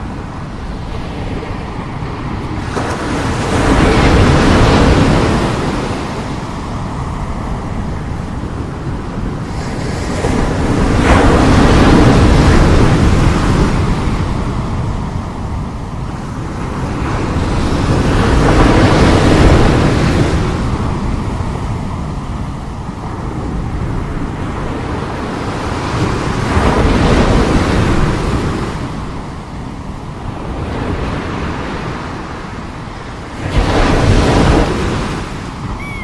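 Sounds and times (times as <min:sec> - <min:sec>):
sea waves crashing: 0:00.0 - 0:36.0
wind buffeting microphone: 0:00.0 - 0:36.0.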